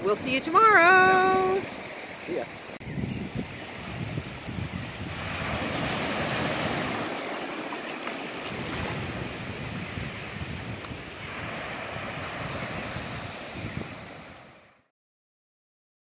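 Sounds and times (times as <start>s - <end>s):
wind rumble on microphone: 0.0s - 7.2s, 8.4s - 14.7s
waves washing on sand: 0.0s - 14.9s.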